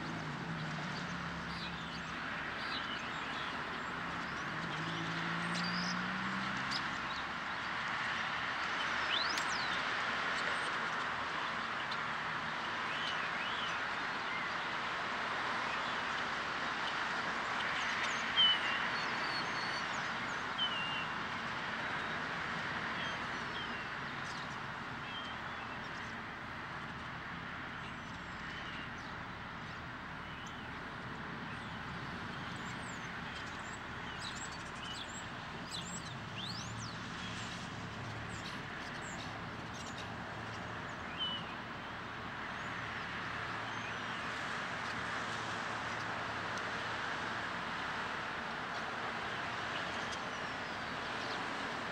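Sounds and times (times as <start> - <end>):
street traffic hum: 0.0 - 51.9.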